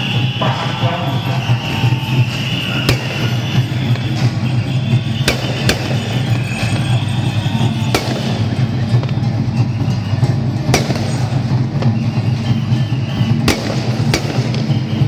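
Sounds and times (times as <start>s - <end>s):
firecracker bangs: 0.0s - 15.0s
steady music: 0.0s - 15.0s.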